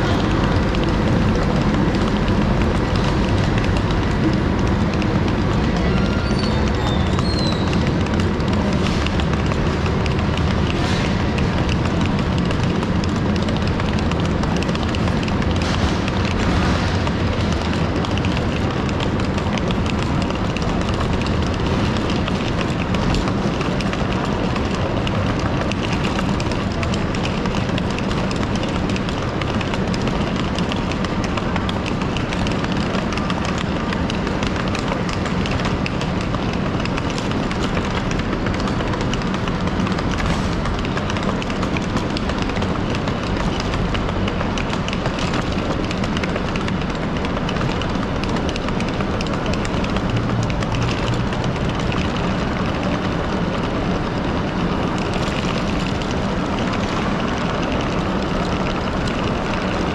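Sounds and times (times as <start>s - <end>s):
footsteps: 0.0s - 59.9s
rolling suitcases: 0.0s - 59.9s.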